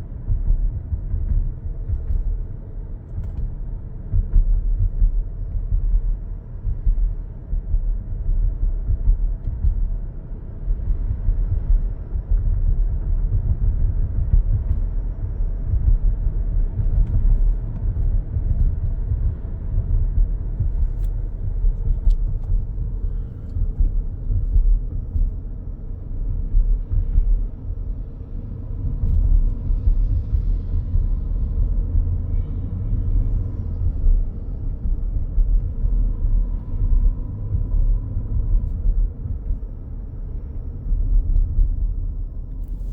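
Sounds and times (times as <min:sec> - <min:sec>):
road rumble inside car: 0:00.0 - 0:42.9.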